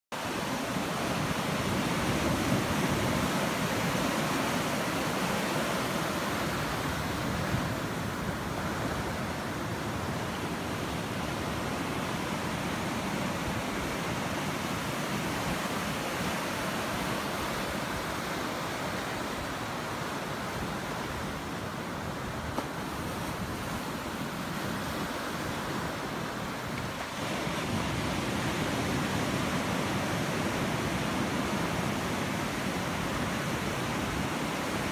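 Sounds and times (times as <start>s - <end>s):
waves breaking on beach: 0.1s - 34.9s.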